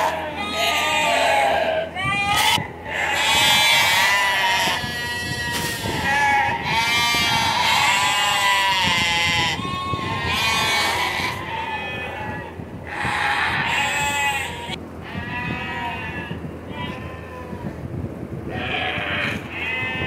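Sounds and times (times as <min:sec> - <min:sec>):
sheep and lambs bleating: 0:00.0 - 0:17.8, 0:18.5 - 0:20.0.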